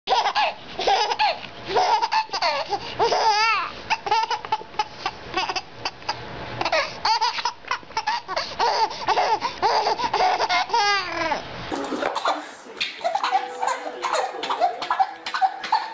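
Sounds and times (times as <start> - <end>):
baby laughing and squealing: 0.1 - 6.0, 6.6 - 15.9.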